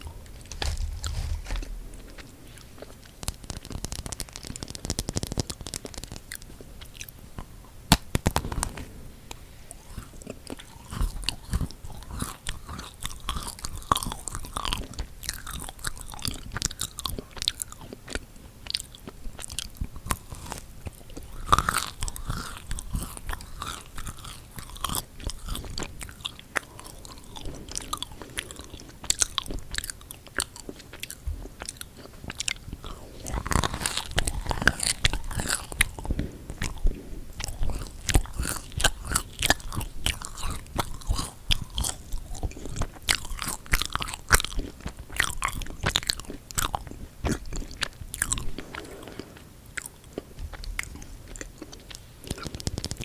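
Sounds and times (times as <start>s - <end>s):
biting and chewing cookies: 0.0s - 53.0s
crackles and sticky clicks: 0.0s - 53.0s.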